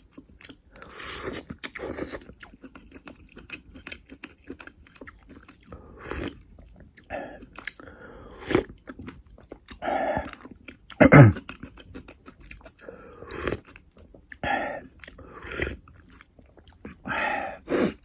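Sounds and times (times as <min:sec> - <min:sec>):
person chewing and biting: 0:00.2 - 0:17.0.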